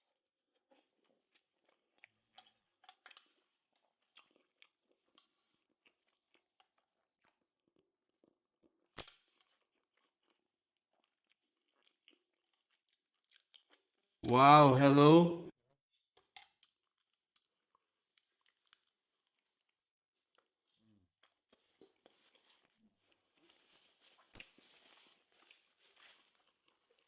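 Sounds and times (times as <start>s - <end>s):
person chewing: 0.0s - 14.3s, 15.9s - 27.0s.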